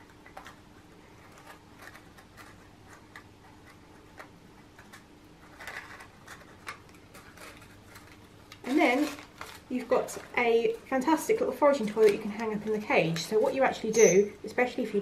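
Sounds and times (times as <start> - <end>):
paper crinkling: 0.0 - 14.0
soft rustles: 0.4 - 13.9.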